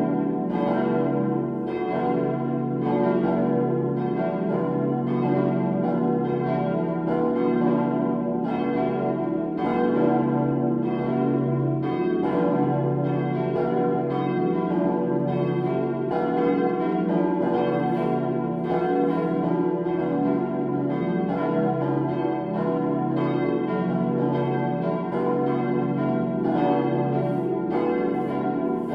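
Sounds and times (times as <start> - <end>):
church bells pealing: 0.0 - 28.9
deep church bell: 0.0 - 28.9.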